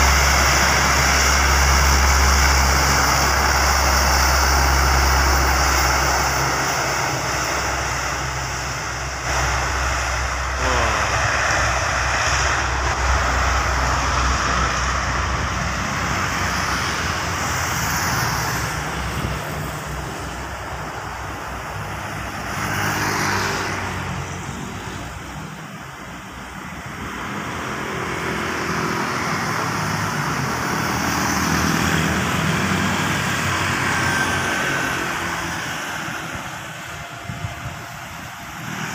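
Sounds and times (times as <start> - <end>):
motorcycles passing: 0.0 - 38.9
road traffic passing: 0.0 - 38.9
turboprop engines droning: 0.0 - 38.9.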